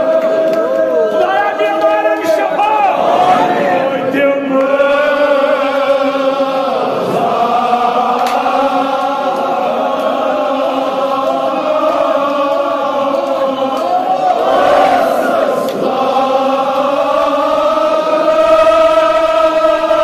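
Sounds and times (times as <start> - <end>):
men chanting in held notes: 0.0 - 20.0.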